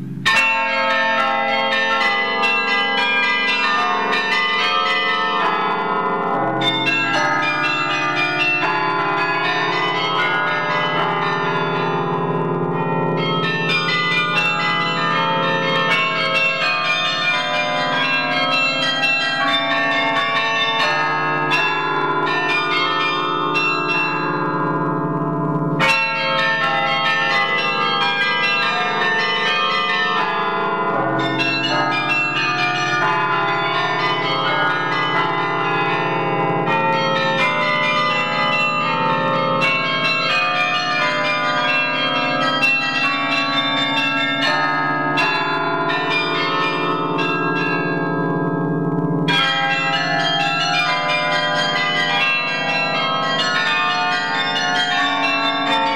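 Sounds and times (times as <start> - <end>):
long-ringing low bells: 0.0 - 55.9.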